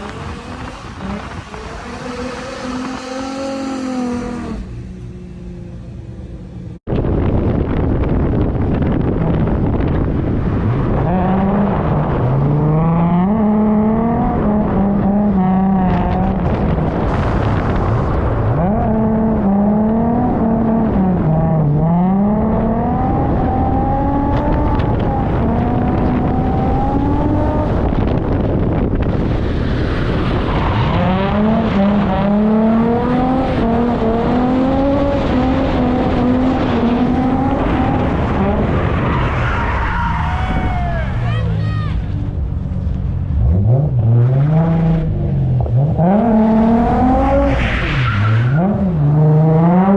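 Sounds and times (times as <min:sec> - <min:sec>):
car engine revving: 0:00.0 - 0:06.8, 0:09.0 - 0:40.0, 0:42.0 - 0:49.9.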